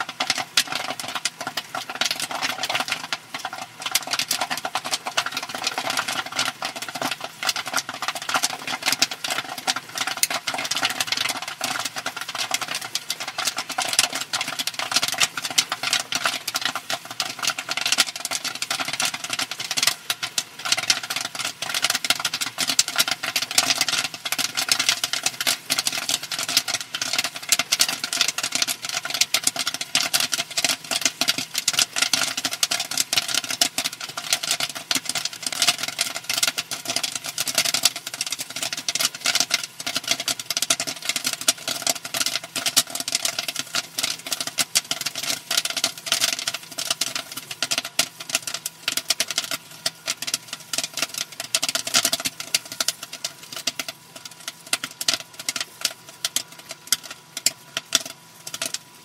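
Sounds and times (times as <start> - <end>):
popcorn popping: 0.0 - 59.0.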